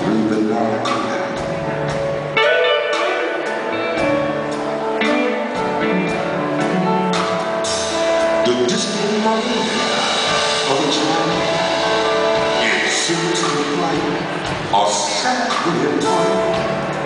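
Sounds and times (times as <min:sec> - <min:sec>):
electric guitar lead: 0:00.0 - 0:17.0
keyboard backing: 0:00.0 - 0:17.0.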